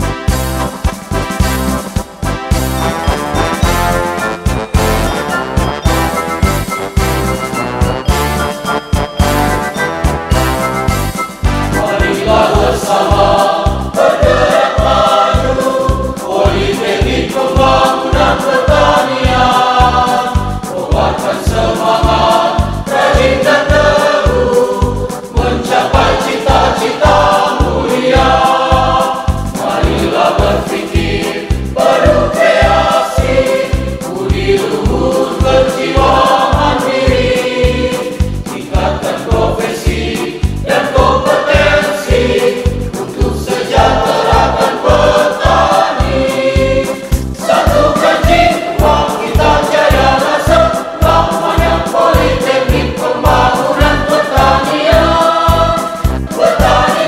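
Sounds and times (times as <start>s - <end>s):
backing track with steady beat: 0.0s - 57.0s
choir singing a march song: 0.0s - 57.0s.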